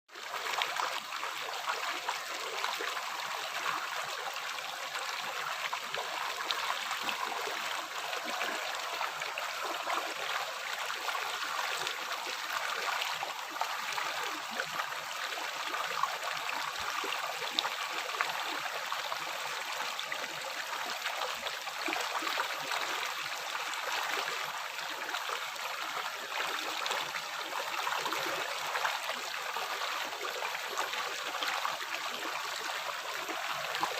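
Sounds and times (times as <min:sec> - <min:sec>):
stream babbling over rocks: 0:00.1 - 0:33.9.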